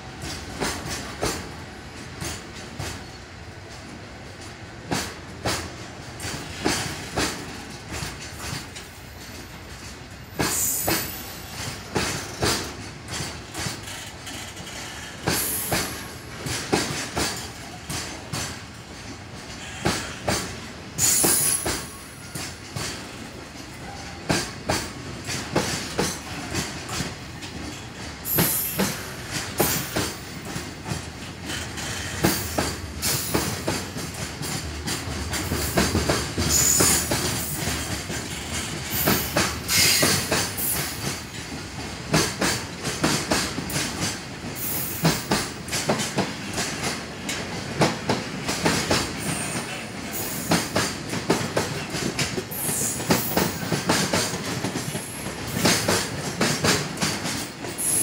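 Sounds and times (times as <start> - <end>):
rumbling roar of train: 0.0 - 58.0
train wheels clacking over rail joints: 0.1 - 58.0.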